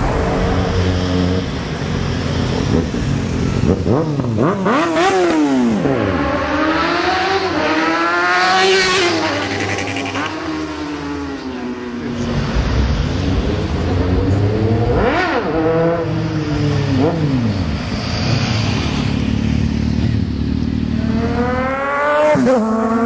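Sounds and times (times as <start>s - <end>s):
motorcycle engine revving: 0.0s - 11.4s, 13.0s - 23.0s.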